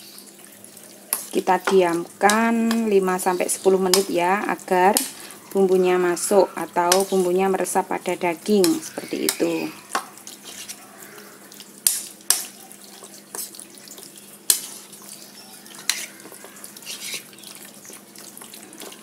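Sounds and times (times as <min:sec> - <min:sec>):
wet squelching of meat mixed by hand: 0:01.2 - 0:19.0.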